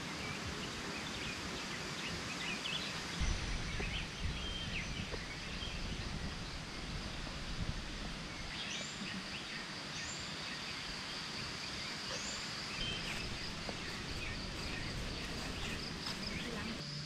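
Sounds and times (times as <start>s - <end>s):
background hiss: 0.0s - 17.0s
high insect drone: 3.0s - 17.0s.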